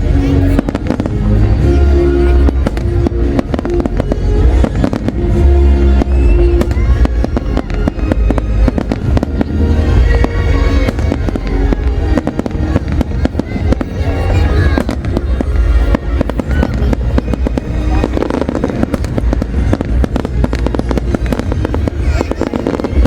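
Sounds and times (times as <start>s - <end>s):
fireworks bangs and crackles: 0.0s - 23.0s
loud music: 0.0s - 23.0s.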